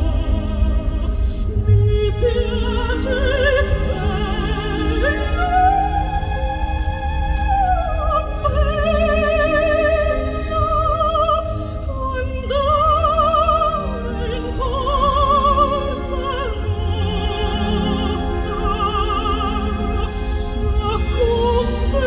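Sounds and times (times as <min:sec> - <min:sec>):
classical backing music: 0:00.0 - 0:22.0
operatic singing with vibrato: 0:00.0 - 0:22.0
steady low rumble: 0:00.0 - 0:22.0.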